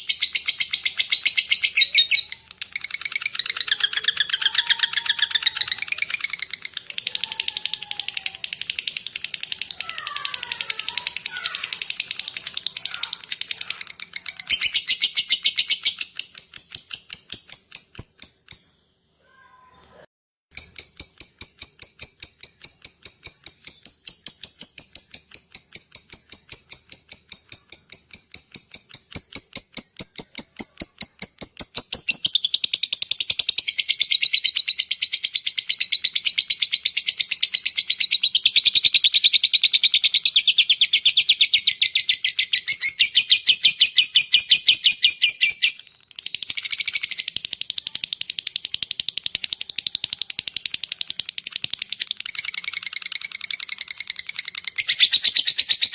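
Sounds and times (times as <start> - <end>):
lovebird rapid chattering: 0.0 - 18.8, 20.5 - 55.9
lovebird ticking chirps: 0.0 - 18.8, 20.5 - 55.9.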